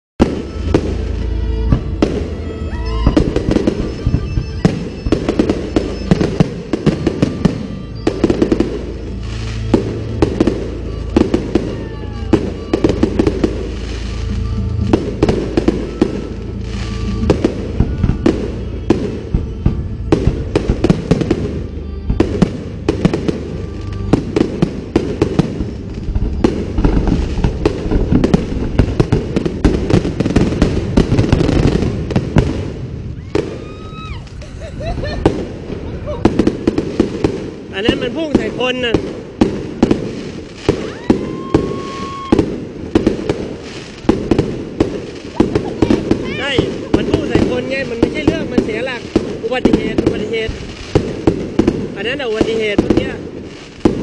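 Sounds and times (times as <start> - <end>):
fireworks bangs: 0.2 - 54.0
music playing: 0.2 - 54.0.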